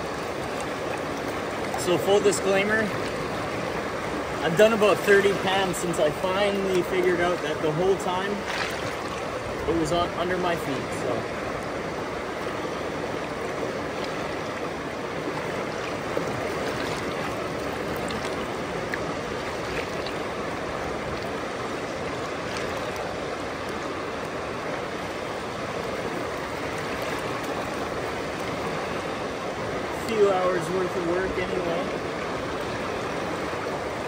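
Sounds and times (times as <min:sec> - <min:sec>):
river water rushing over rocks: 0:00.0 - 0:34.0.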